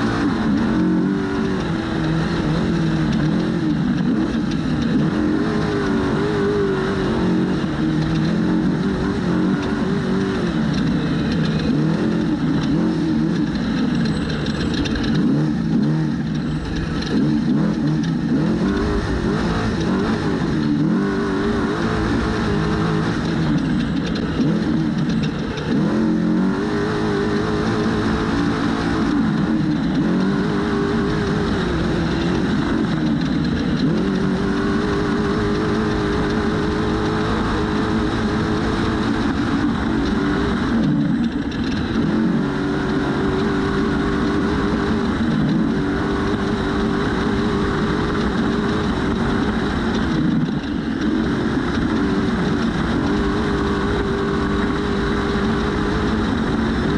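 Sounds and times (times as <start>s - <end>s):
steady rushing noise: 0.0s - 56.9s
truck engine revving: 0.0s - 56.9s.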